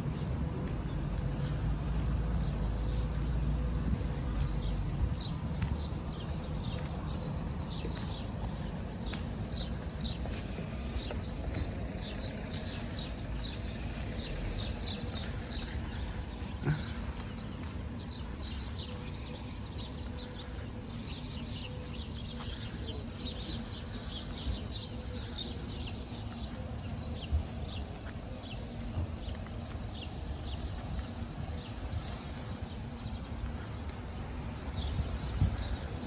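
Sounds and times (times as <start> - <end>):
small birds chirping: 0.0 - 36.0
steady low rumble: 0.0 - 36.0.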